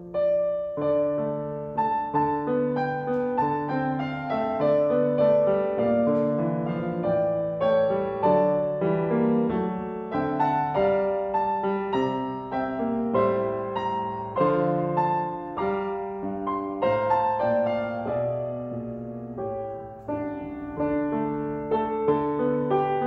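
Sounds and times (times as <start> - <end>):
slow gentle piano piece: 0.0 - 23.0.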